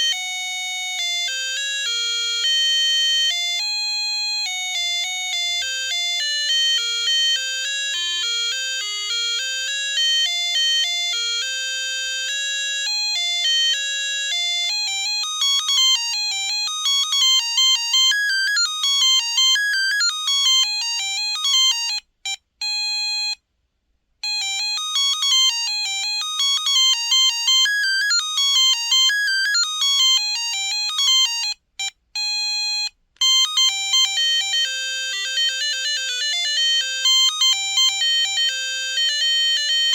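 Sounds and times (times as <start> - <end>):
mobile phone ringtone melodies: 0.0 - 23.4, 24.2 - 39.9.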